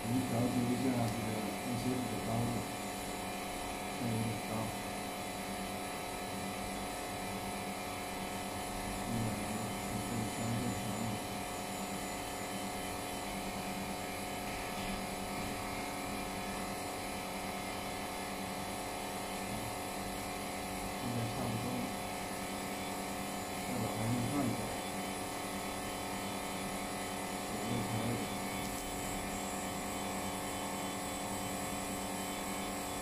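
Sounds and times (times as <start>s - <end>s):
machine electrical hum: 0.0s - 33.0s.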